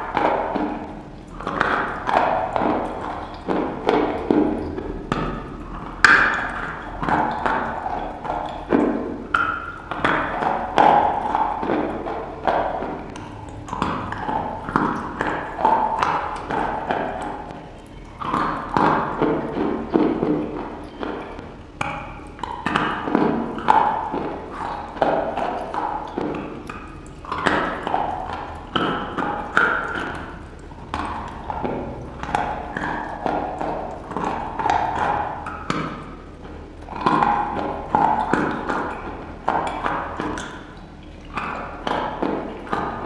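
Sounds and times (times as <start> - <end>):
mouth clicks and smacks: 0.1 - 43.0.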